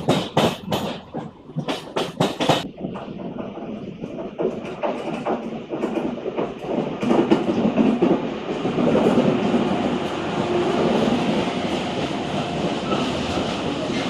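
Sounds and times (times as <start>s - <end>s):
train rolling noise: 0.0s - 14.0s
train wheels clacking over rail joints: 0.0s - 14.0s.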